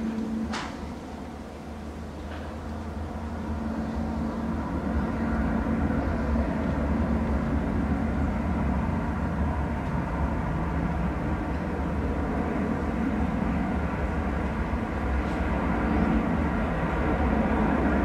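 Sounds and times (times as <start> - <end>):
jet engine rumble: 0.0 - 18.0
low hum: 0.0 - 18.0.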